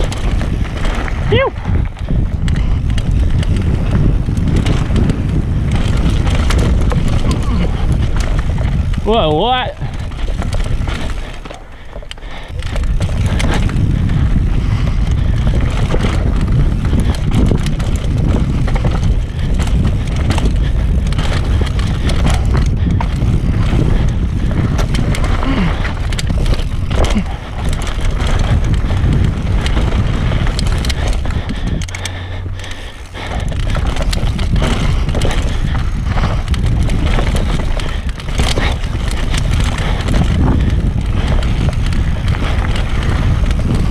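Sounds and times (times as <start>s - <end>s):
bike rattling and knocking: 0.0s - 43.9s
tyres rushing over dirt and stone: 2.9s - 43.9s.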